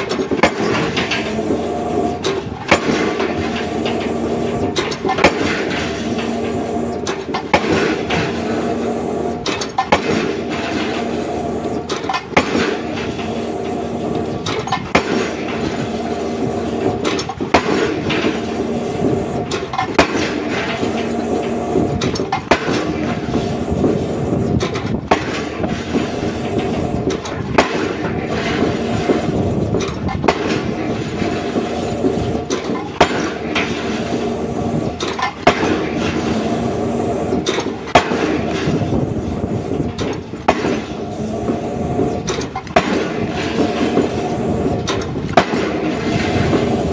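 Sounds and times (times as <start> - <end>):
machine engine running: 0.0 - 46.9
pile-driving hammer blows: 0.0 - 46.9.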